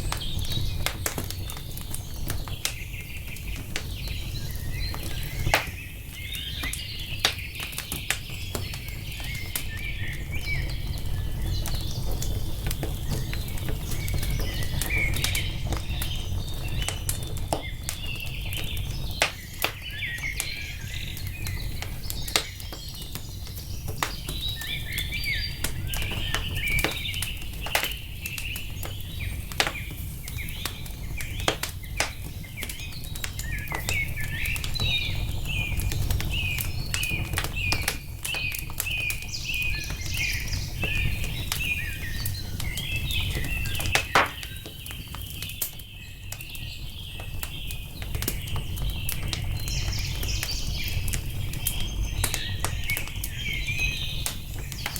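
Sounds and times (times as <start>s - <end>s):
songbirds chirping: 0.0s - 54.9s
wood fire crackling and popping: 0.0s - 54.9s.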